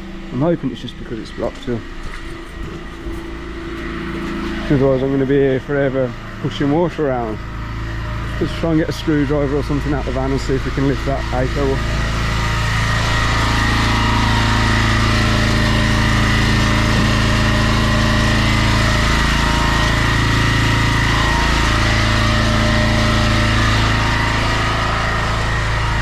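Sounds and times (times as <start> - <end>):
pressure washer engine running: 0.0 - 26.0.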